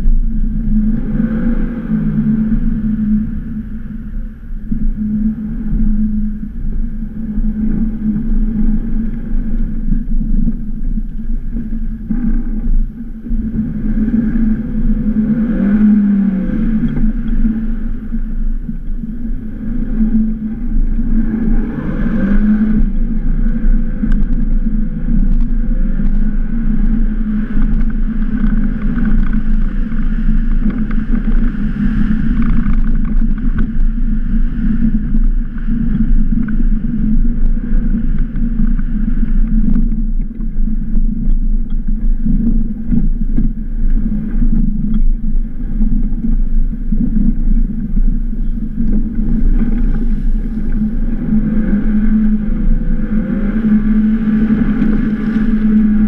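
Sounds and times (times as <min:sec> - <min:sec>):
car engine droning: 0:00.0 - 0:56.0
tyres on packed snow: 0:00.0 - 0:56.0.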